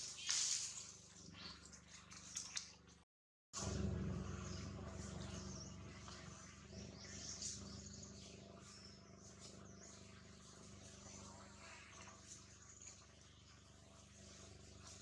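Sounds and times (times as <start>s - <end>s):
small birds chirping: 0.0s - 2.6s, 3.6s - 15.0s
low outdoor hum: 0.0s - 3.0s, 3.6s - 15.0s.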